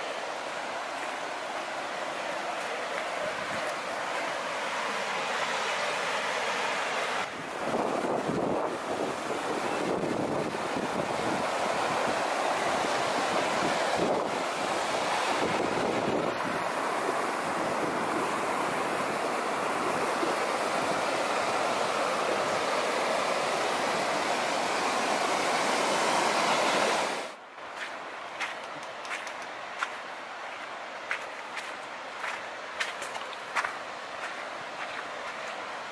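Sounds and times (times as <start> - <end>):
stream rushing through rapids: 0.0 - 35.9.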